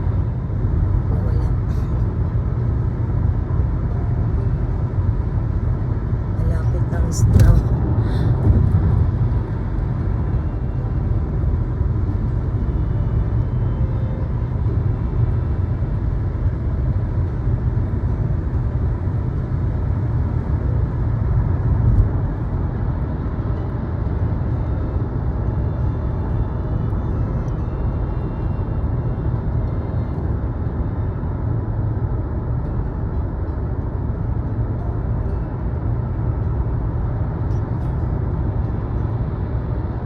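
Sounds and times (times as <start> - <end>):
moving vehicle rumble: 0.0 - 40.0.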